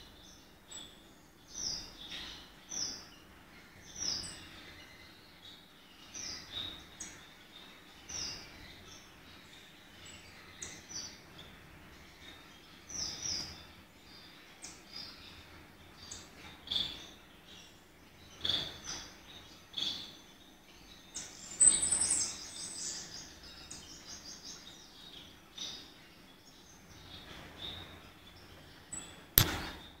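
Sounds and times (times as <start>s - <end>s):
finches chirping: 0.0s - 30.0s.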